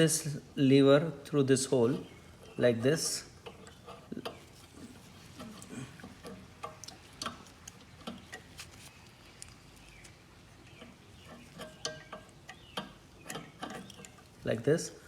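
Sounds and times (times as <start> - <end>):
light clicks and taps of metal parts: 1.9 - 14.8.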